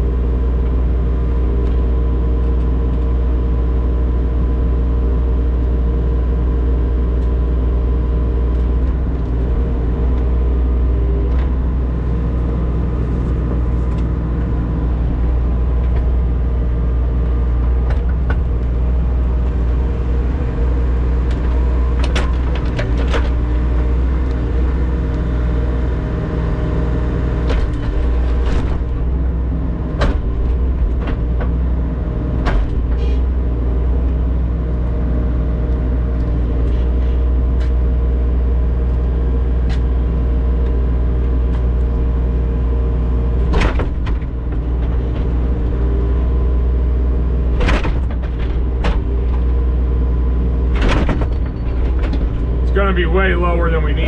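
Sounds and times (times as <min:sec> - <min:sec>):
digger diesel engine running: 0:00.0 - 0:54.0.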